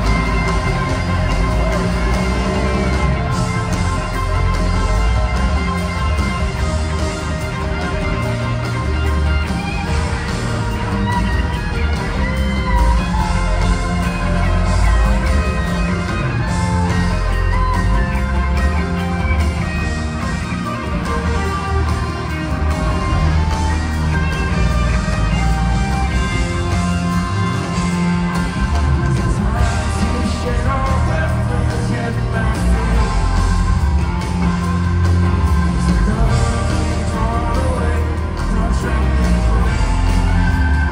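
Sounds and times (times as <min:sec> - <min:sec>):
bass and drums: 0:00.0 - 0:40.9
electric guitar: 0:00.0 - 0:40.9
rock band playing live: 0:00.0 - 0:40.9.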